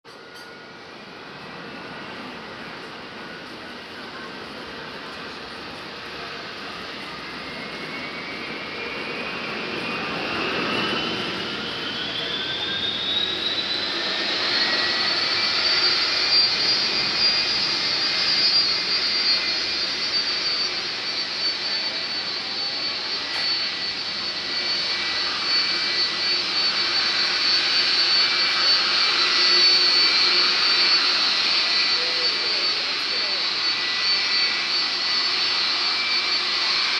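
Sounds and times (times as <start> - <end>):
high engine whine: 0.1 - 36.9
jet engines spooling up: 0.1 - 36.9.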